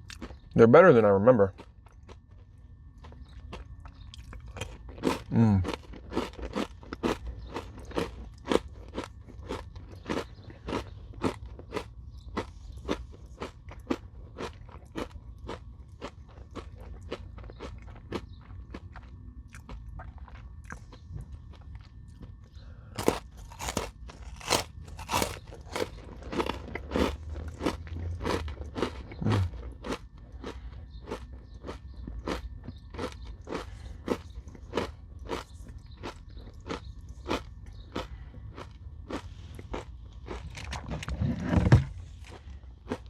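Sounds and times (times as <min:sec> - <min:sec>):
chewing crunchy granola bar: 0:00.0 - 0:43.0.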